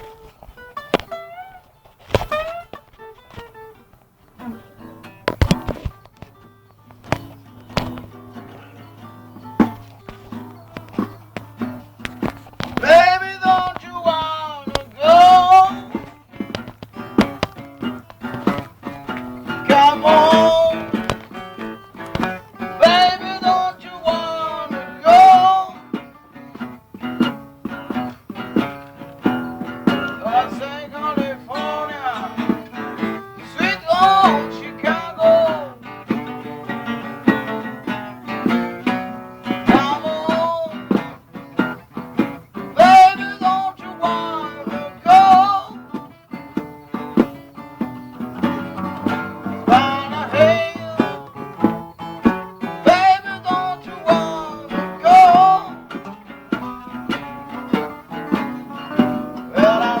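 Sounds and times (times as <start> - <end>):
blues band playing: 0.0 - 60.0
lead guitar with bent notes: 0.0 - 60.0.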